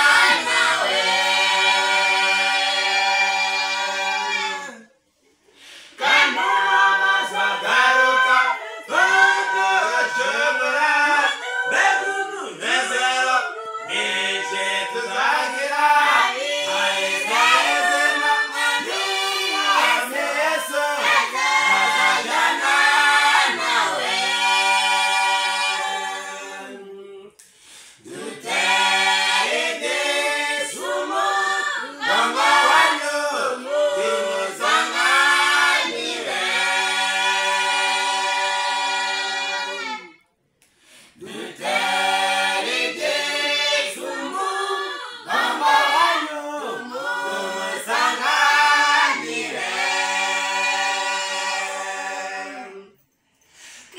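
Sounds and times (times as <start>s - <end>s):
group singing a cappella: 0.0s - 53.9s.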